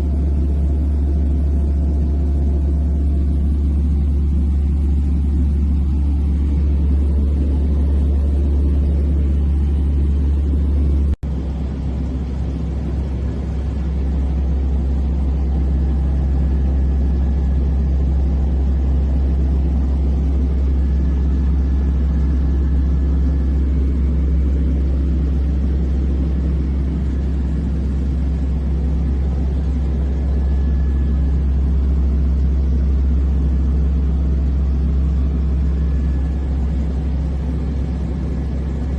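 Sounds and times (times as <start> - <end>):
small airplane engine droning: 0.0 - 38.9.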